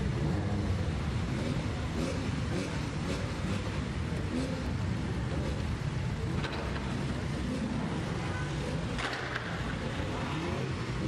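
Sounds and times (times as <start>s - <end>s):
car engines pulling away: 0.0s - 11.0s.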